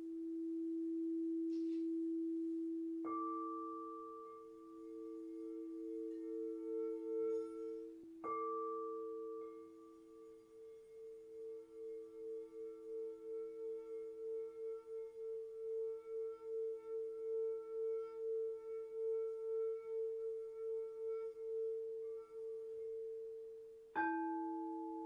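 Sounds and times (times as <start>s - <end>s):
crystal singing bowls ringing: 0.0s - 20.1s, 24.0s - 25.0s.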